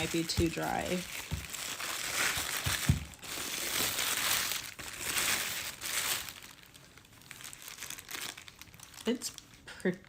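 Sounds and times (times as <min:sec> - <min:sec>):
crinkling and rustling handling: 0:00.0 - 0:10.0.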